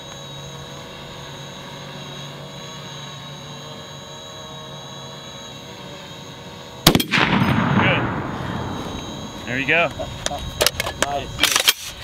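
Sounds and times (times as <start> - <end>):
steady engine-like drone: 0.0 - 12.0.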